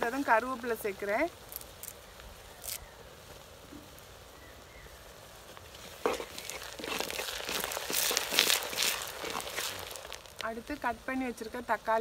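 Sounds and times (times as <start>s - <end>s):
leaves spluttering in hot oil: 0.0s - 12.0s
shallots crackling and sizzling: 0.0s - 12.0s.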